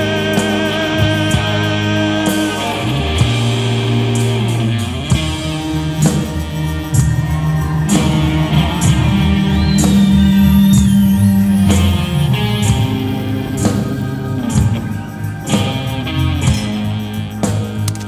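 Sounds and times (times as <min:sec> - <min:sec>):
bass guitar: 0:00.0 - 0:18.0
drum kit: 0:00.0 - 0:18.0
electric guitars: 0:00.0 - 0:18.0.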